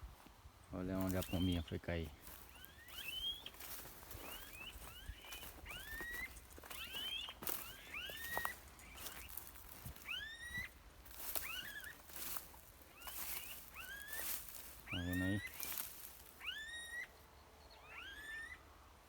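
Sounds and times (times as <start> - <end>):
birds whistling upward notes: 1.0 - 18.8
faint rustles and clicks: 1.1 - 16.4.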